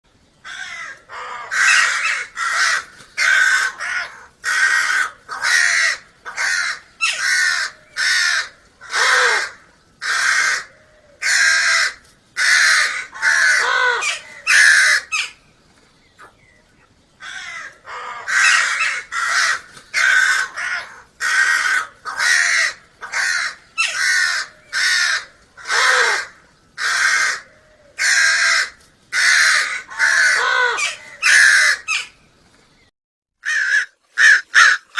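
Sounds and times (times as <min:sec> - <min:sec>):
crows cawing: 0:00.4 - 0:15.4, 0:17.2 - 0:32.2, 0:33.4 - 0:34.9.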